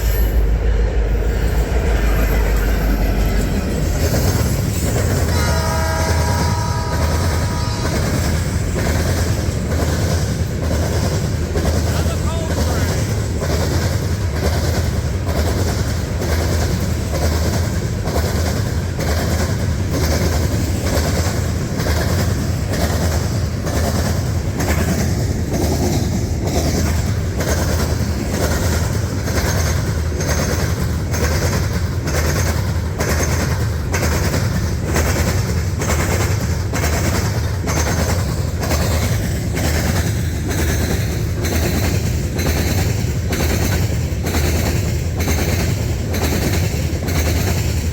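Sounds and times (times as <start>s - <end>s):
train cars rolling past: 0.0s - 47.9s
wheels clicking over rail joints: 2.0s - 47.9s.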